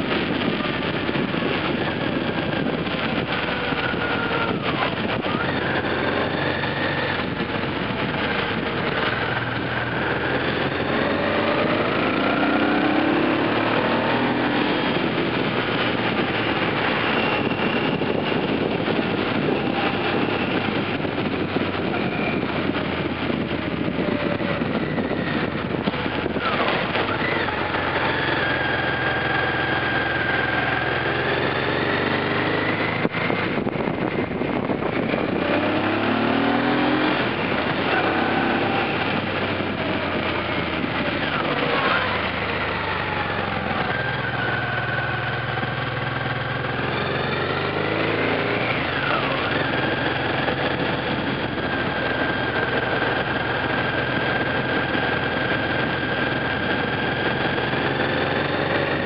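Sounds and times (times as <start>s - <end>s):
scooter engine while riding: 0.0s - 59.0s
wind and road noise: 0.0s - 59.0s.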